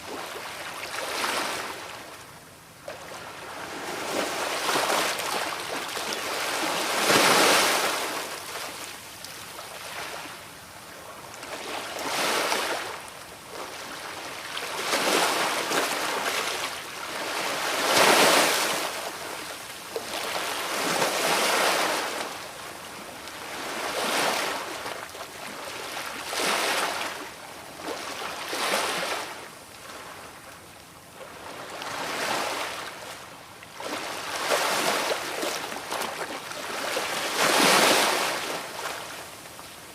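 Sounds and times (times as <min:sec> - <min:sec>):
sea waves washing ashore: 0:03.0 - 0:10.4, 0:11.5 - 0:30.4, 0:31.3 - 0:39.9.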